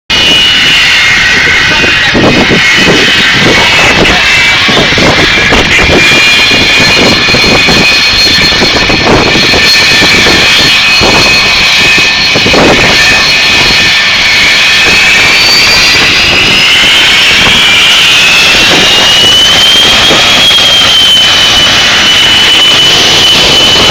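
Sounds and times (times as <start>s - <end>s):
jet blast rumble: 0.1s - 23.9s
jet engine whine: 0.1s - 23.9s
wind buffeting microphone: 0.1s - 23.9s.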